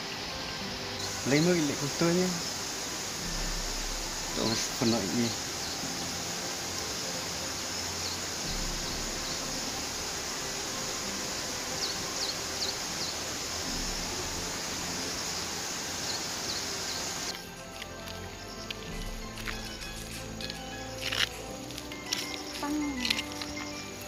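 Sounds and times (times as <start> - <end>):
insect chorus: 0.0 - 24.0
open-air noise: 0.0 - 24.0.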